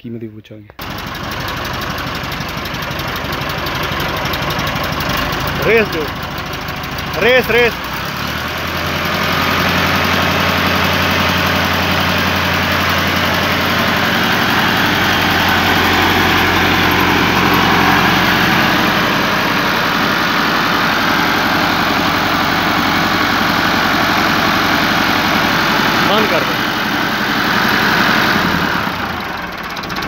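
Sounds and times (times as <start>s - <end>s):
tractor diesel engine running: 0.8s - 30.0s.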